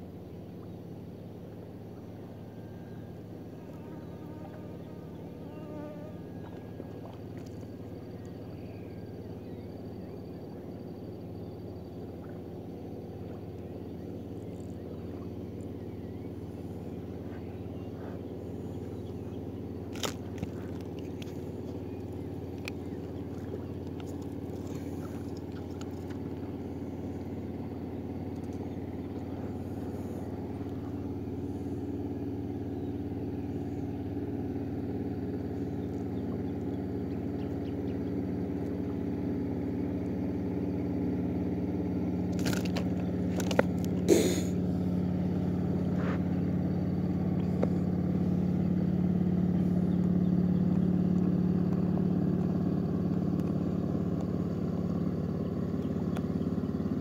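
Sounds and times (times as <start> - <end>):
distant motorboat engine drone: 0.0 - 57.0.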